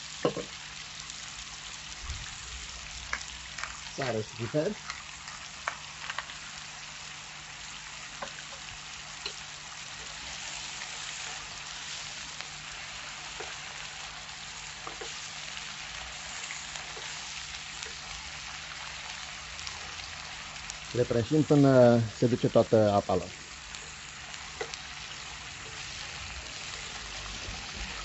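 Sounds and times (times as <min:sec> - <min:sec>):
food sizzling in a frying pan: 0:00.0 - 0:28.0.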